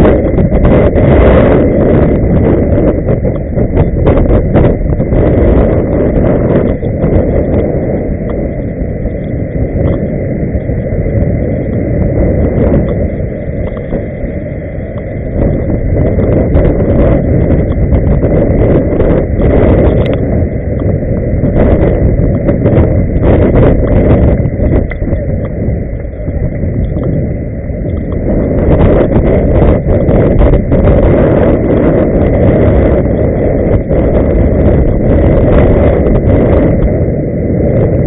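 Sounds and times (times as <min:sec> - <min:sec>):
faint high whine: 0:00.0 - 0:38.0
wind on microphone: 0:00.0 - 0:38.0.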